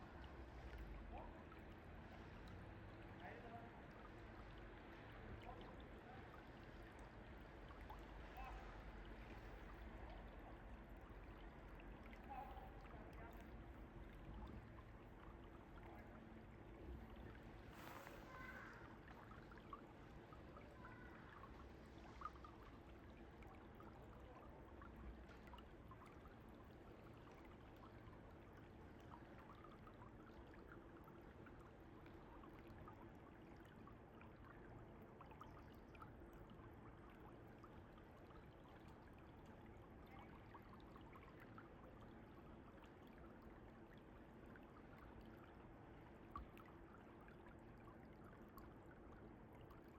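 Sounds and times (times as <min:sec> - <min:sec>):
faint mountain stream flowing: 0:00.0 - 0:49.9.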